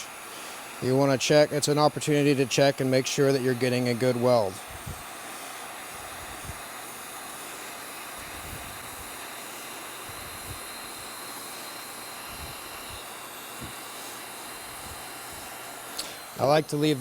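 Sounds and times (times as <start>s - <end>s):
heat gun hissing: 0.0s - 17.0s.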